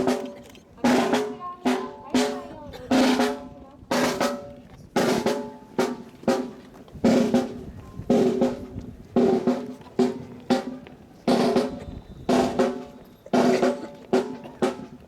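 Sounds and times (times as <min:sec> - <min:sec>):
snare and bass drum cadence: 0:00.0 - 0:15.0.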